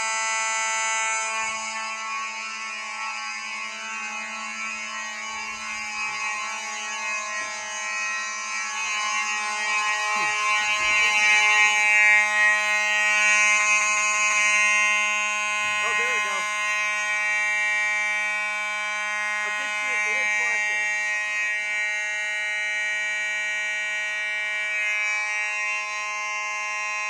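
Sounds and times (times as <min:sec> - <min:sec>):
fire alarm horns buzzing: 0:00.0 - 0:27.0.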